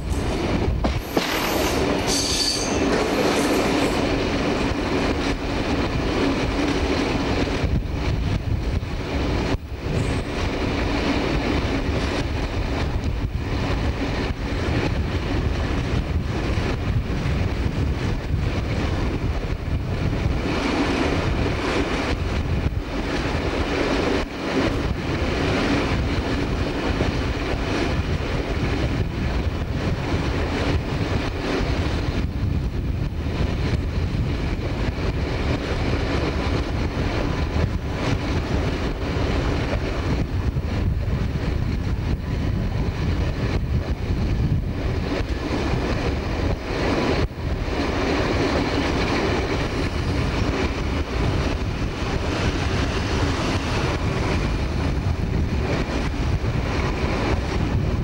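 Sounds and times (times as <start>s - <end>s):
train engine and wheels rumbling: 0.0s - 58.0s
wind on microphone: 0.0s - 58.0s.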